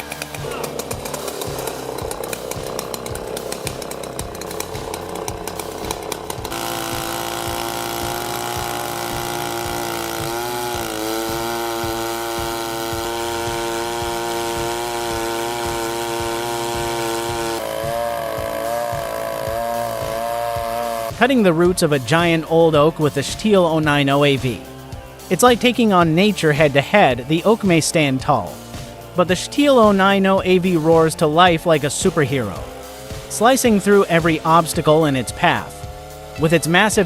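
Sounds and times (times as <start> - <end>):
chainsaw running at high revs: 0.0 - 37.0.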